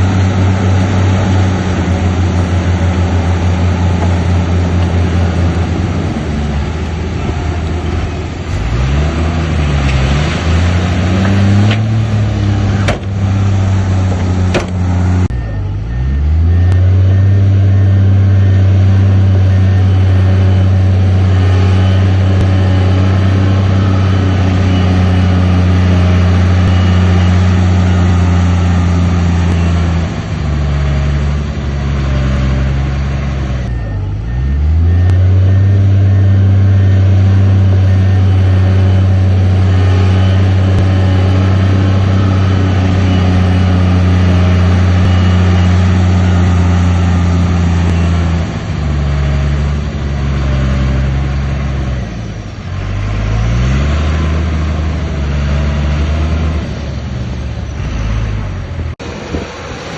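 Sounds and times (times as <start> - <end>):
heavy machine diesel engine: 0.0 - 59.9.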